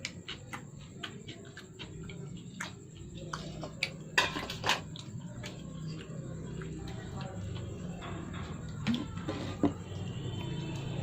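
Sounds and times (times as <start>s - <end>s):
chewing: 0.0s - 11.0s.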